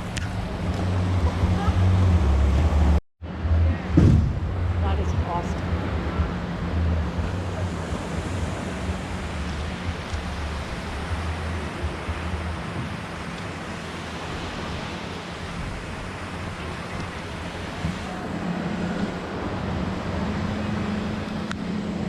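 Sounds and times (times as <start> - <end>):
boat engine drone: 0.0 - 22.0
sea surf: 0.0 - 22.0
wind on microphone: 0.0 - 22.0.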